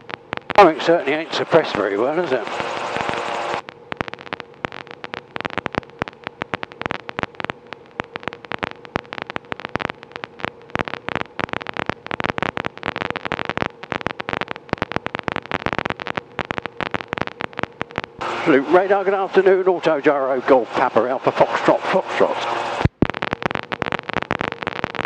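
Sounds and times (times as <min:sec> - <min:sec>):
faint steady hum: 0:00.0 - 0:25.0
radio static crackling: 0:00.0 - 0:25.0.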